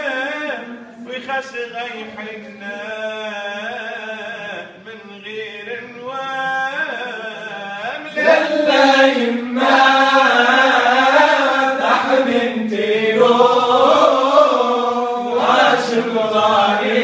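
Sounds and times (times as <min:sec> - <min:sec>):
men singing a cappella: 0:00.0 - 0:17.0.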